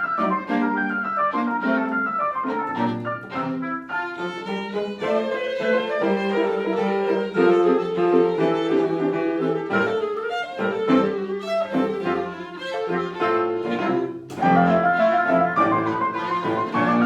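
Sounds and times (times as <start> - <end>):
bowed strings: 0.0 - 17.0
chamber music quintet: 0.0 - 17.0.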